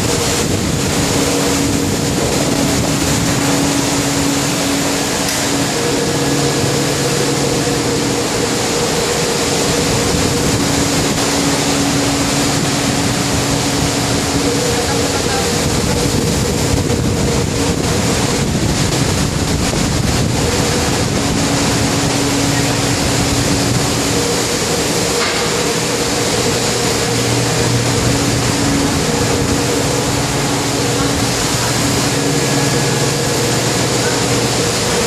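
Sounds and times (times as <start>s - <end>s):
low steady hum: 0.0s - 35.0s
waves: 0.0s - 35.0s.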